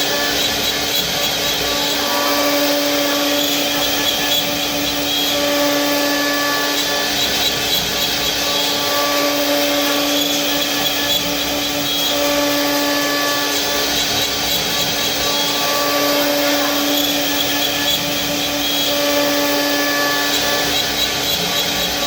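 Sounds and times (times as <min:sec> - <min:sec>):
wood router cutting wood: 0:00.0 - 0:22.0.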